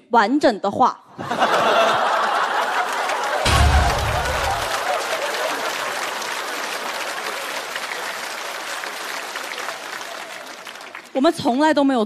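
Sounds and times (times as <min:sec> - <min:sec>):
studio audience applauding: 0:01.4 - 0:11.4.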